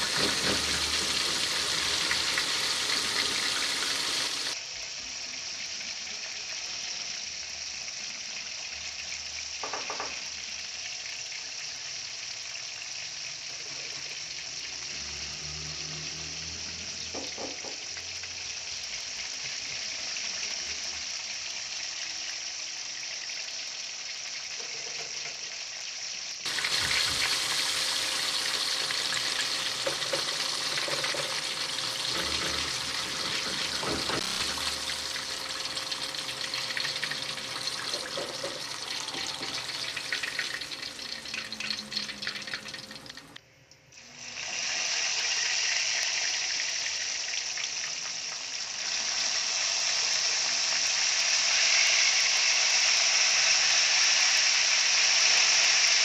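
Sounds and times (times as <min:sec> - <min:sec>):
chicken wings deep-frying in oil: 0:00.0 - 0:43.4, 0:44.0 - 0:56.0.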